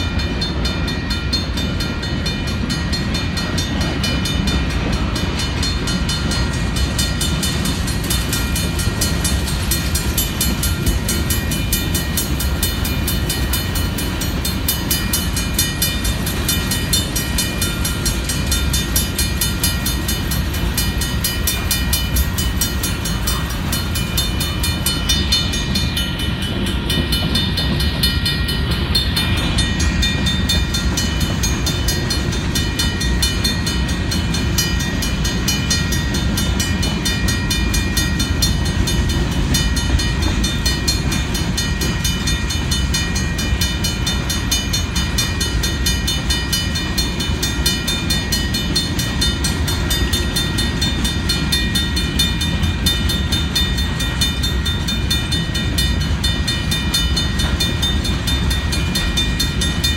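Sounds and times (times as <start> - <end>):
crossing bell ringing: 0.0 - 59.9
train wheels rumbling on rails: 0.0 - 59.9.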